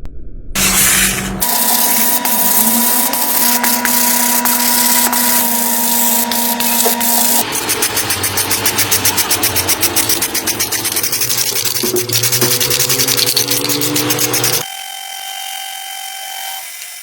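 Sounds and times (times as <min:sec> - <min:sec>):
fast even pulsing: 0:00.6 - 0:14.6
small motor running with hiss: 0:00.6 - 0:17.0.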